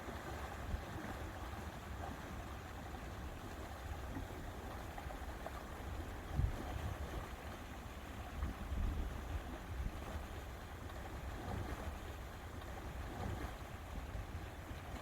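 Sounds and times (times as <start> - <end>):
lake water washing: 0.0 - 15.0.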